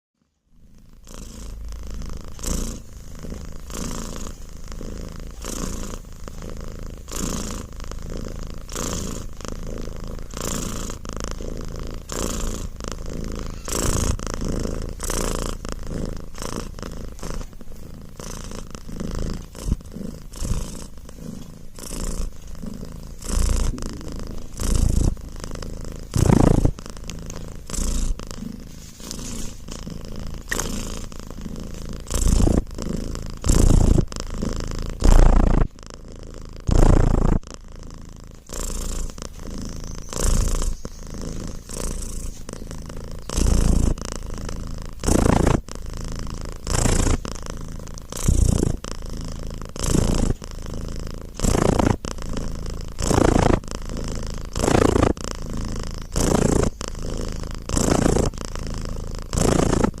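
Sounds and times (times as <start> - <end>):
cat purring: 0.2 - 60.0.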